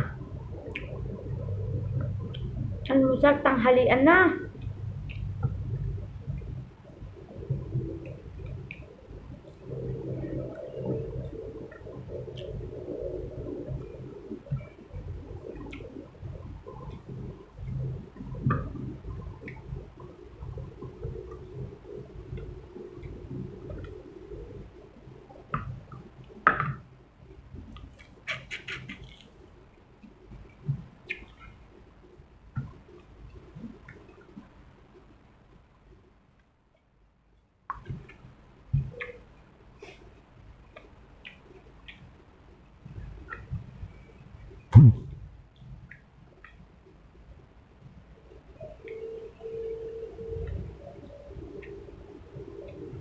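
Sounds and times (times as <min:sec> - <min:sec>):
low uneven hum: 0:00.0 - 0:53.0.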